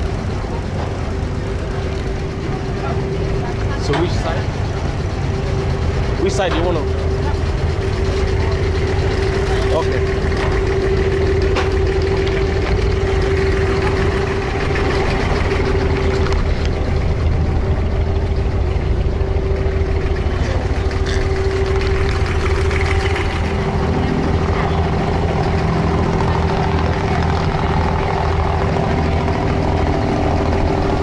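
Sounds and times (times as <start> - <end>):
boat diesel engine idling: 0.0 - 31.0.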